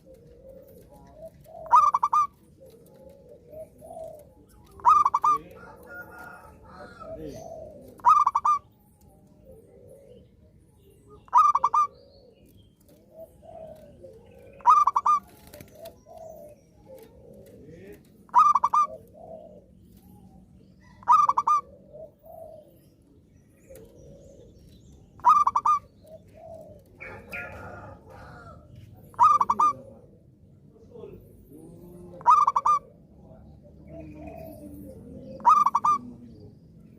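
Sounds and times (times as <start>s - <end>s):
dove rapid staccato cooing: 0.0s - 36.9s
soft low dove calls: 0.0s - 36.9s.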